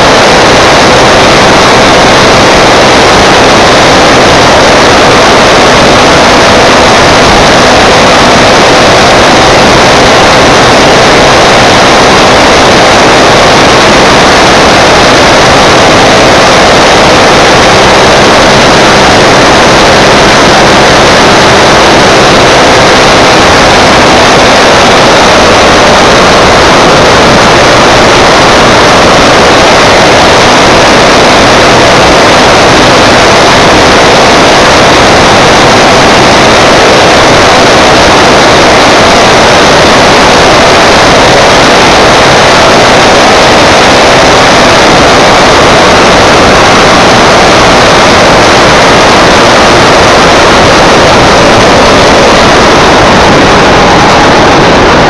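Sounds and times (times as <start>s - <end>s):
wind and road rush on microphone: 0.0s - 55.0s.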